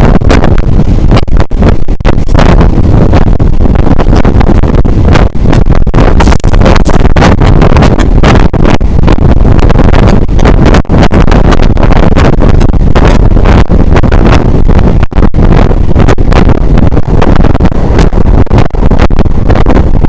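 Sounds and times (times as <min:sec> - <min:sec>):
train running at speed: 0:00.0 - 0:20.0
wind buffeting microphone: 0:00.0 - 0:20.0.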